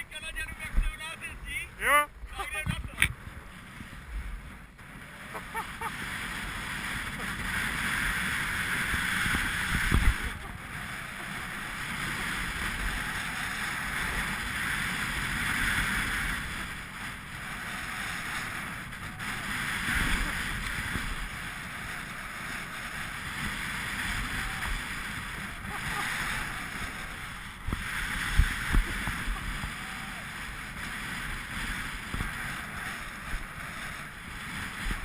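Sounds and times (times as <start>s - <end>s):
skis scraping over snow: 0.0s - 35.0s
wind on microphone: 0.0s - 35.0s.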